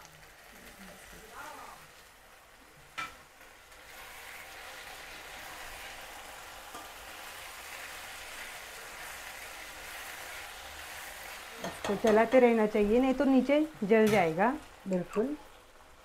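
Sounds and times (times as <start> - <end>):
stuffing sizzling in a pan: 0.0 - 16.0.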